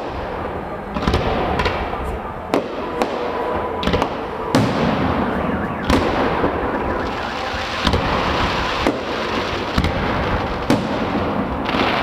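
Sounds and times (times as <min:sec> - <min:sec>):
continuous rumbling: 0:00.0 - 0:12.0
fireworks bangs: 0:00.0 - 0:12.0.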